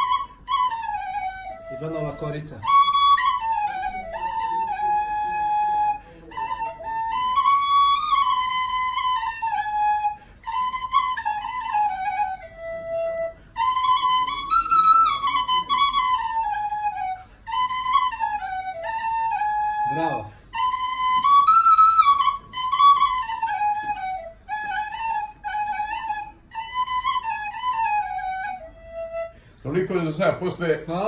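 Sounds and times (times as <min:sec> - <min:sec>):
wooden flute melody: 0:00.0 - 0:31.0.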